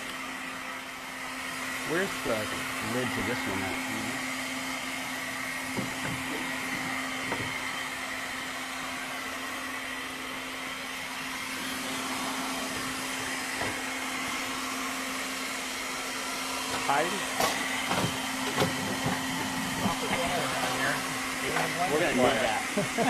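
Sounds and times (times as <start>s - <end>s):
blender grinding dried herbs: 0.0s - 23.0s.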